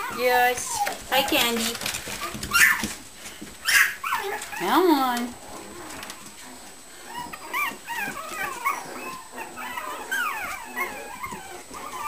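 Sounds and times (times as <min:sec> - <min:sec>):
puppies whining and yipping: 0:00.0 - 0:01.4, 0:02.0 - 0:03.0, 0:03.6 - 0:05.0, 0:05.6 - 0:12.0.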